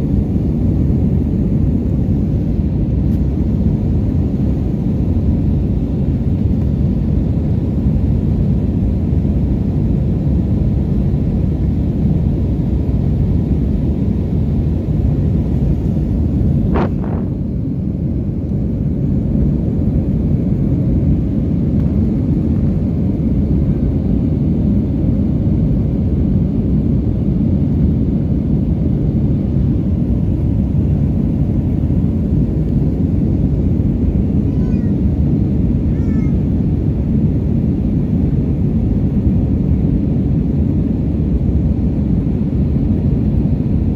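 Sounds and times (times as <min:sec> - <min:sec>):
jet engine roar in cabin: 0:00.0 - 0:43.9.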